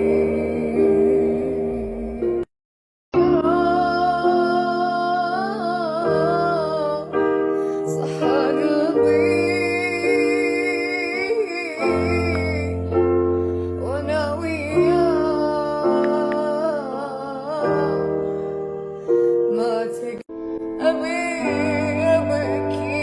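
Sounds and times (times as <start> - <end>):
woman singing: 0.0 - 2.4, 3.2 - 13.0, 13.8 - 18.5, 19.5 - 23.0
keyboard chords: 3.2 - 23.0.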